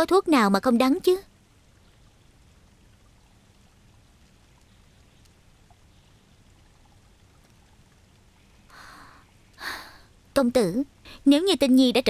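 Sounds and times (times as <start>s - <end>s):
faint steady background hiss: 0.0s - 12.0s.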